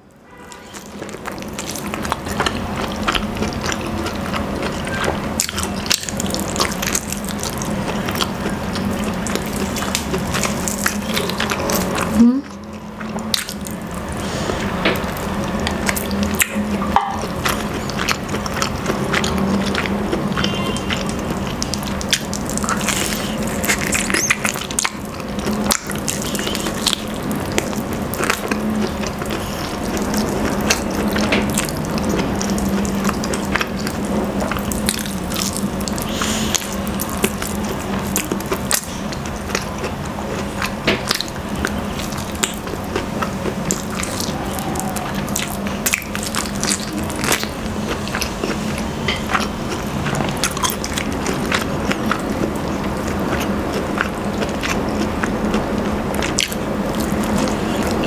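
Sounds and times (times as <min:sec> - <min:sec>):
steady low hum: 0:00.0 - 0:58.0
wet chewing and lip-smacking: 0:00.4 - 0:58.0.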